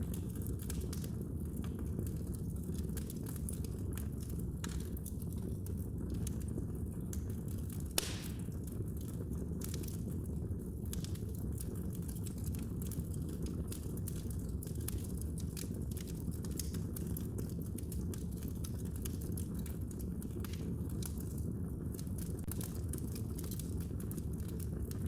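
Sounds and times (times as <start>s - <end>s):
fire crackling and popping: 0.0s - 25.0s
low rumble of fire: 0.0s - 25.0s.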